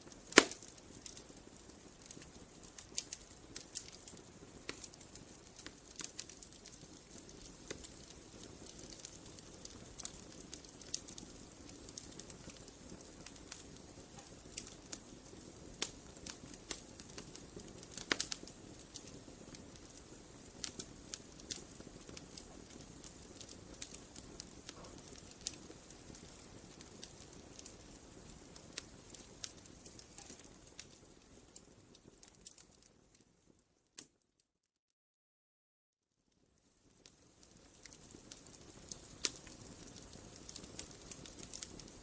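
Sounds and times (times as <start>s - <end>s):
campfire rumbling: 0.0s - 33.5s, 36.8s - 42.0s
wood crackling and popping: 0.0s - 34.2s, 36.4s - 42.0s.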